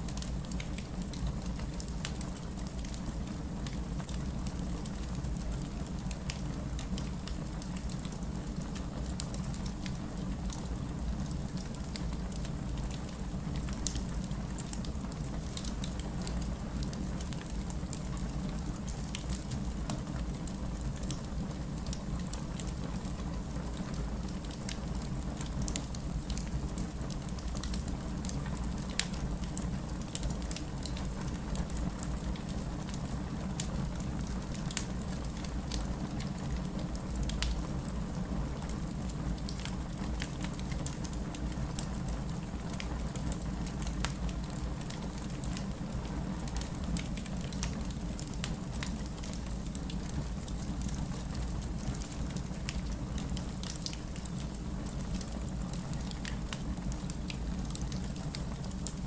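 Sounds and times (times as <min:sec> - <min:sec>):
wood fire crackling: 0:00.1 - 0:59.0.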